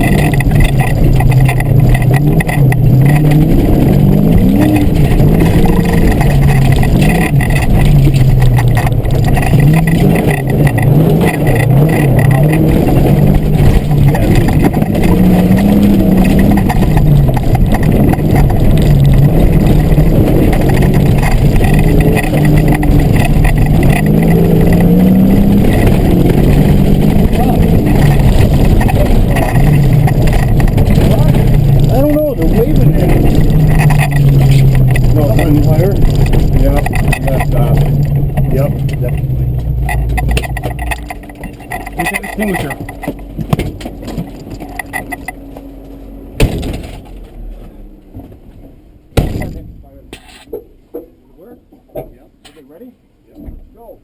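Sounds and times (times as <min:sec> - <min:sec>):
car engine revving and shifting: 0:00.0 - 0:50.6
loud driving noise rush: 0:00.0 - 0:54.0.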